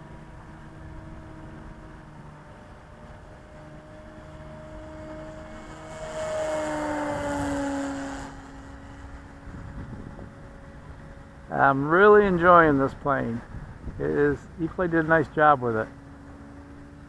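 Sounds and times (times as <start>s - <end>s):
model plane motor humming: 0.0s - 17.0s.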